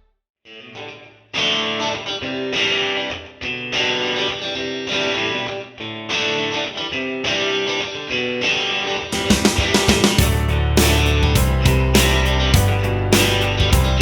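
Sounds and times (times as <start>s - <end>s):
electric guitar playing chords: 0.5s - 14.0s.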